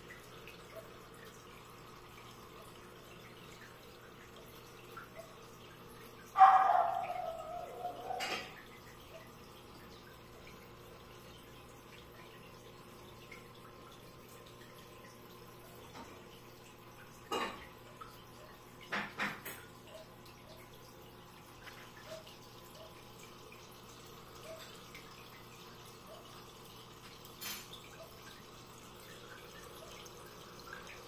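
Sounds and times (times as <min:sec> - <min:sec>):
aquarium filter humming: 0:00.0 - 0:31.0
water trickling and dripping: 0:00.0 - 0:31.0.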